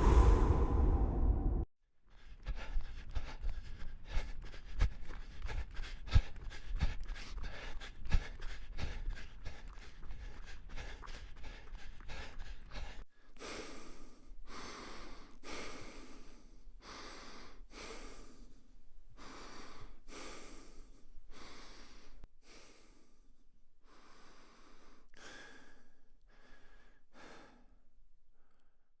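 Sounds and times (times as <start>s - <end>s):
person breathing through the nose: 0.0s - 1.6s, 2.2s - 27.8s.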